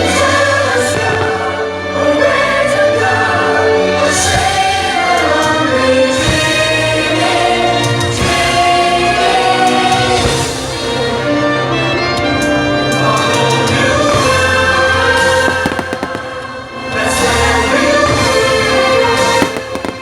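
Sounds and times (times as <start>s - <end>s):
choir singing: 0.0s - 20.0s
orchestral music: 0.0s - 20.0s.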